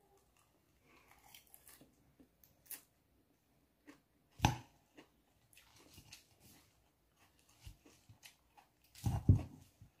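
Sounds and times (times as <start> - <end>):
soft crunching of salad: 0.0 - 10.0.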